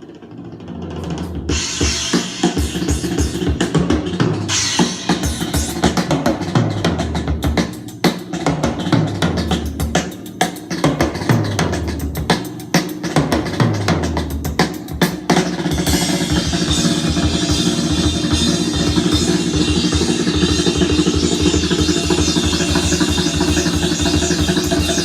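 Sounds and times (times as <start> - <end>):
music with drums and deep bass: 0.6 - 25.0.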